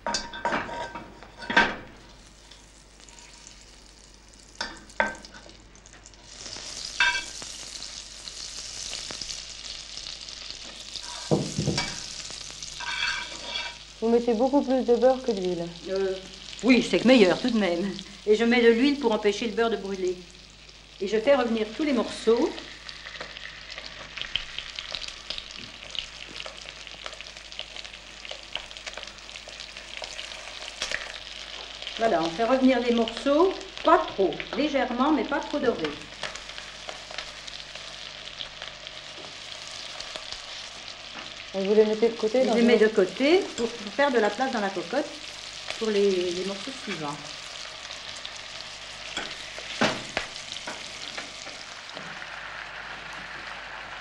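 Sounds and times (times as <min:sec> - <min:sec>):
chicken sizzling in oil: 0:00.0 - 0:54.0.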